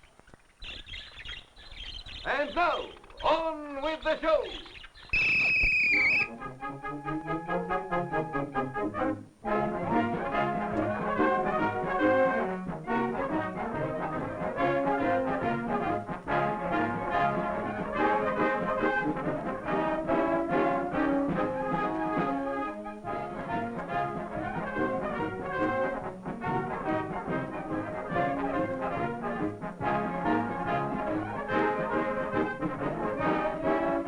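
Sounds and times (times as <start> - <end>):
circus brass band music: 5.2 - 34.0.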